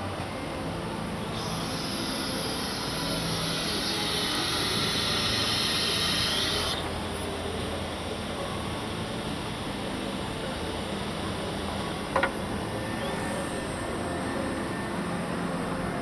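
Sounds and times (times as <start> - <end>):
low machine hum: 0.0 - 16.0
cnc router high-pitched hiss: 0.4 - 16.0.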